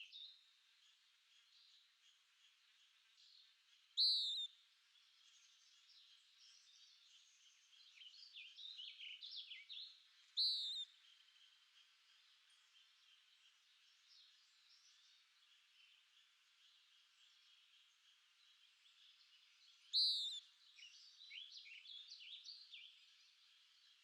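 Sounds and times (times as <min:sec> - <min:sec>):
faint bird twittering: 0:00.0 - 0:24.0
soft bird chirps: 0:00.0 - 0:24.0.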